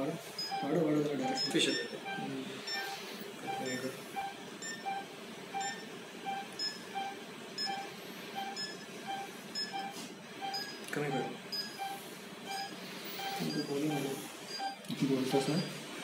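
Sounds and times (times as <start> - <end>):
patient monitor beeping: 0.0 - 15.8.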